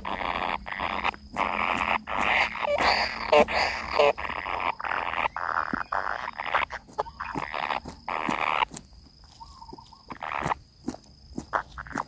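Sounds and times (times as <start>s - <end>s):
nestlings buzzy calls: 0.0s - 12.0s.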